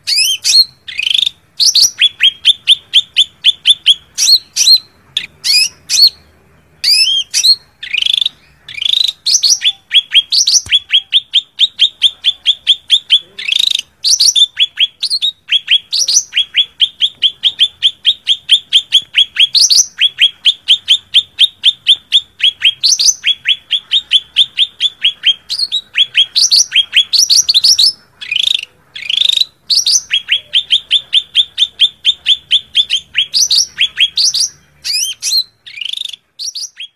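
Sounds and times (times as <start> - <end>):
bird singing fast chirps: 0.0 - 36.9.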